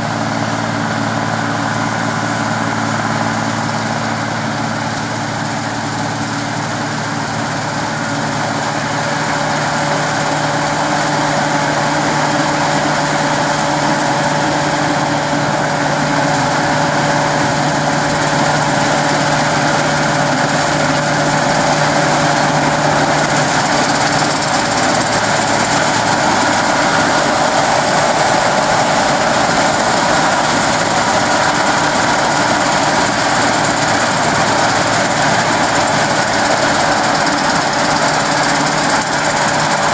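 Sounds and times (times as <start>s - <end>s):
combine harvester running: 0.0s - 39.9s
constant mechanical whine: 0.0s - 39.9s.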